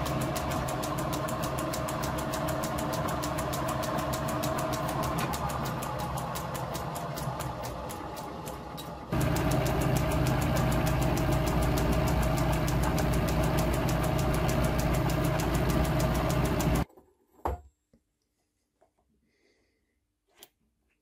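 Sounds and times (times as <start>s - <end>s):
lathe humming with fast ticking: 0.0s - 16.8s.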